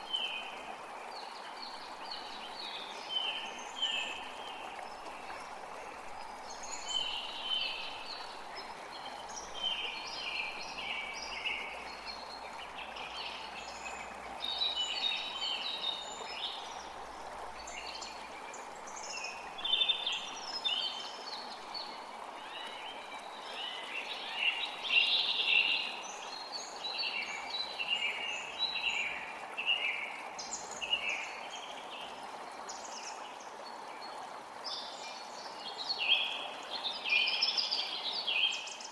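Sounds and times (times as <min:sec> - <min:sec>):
forest creek rushing: 0:00.0 - 0:38.9.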